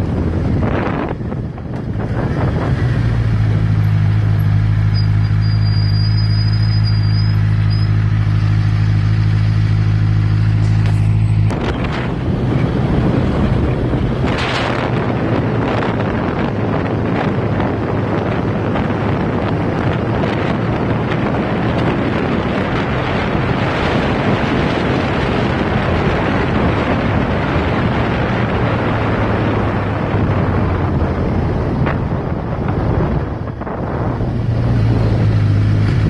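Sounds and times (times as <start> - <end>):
wind rushing over microphone: 0.0 - 4.8, 8.2 - 36.0
motorcycle engine drone: 0.0 - 36.0.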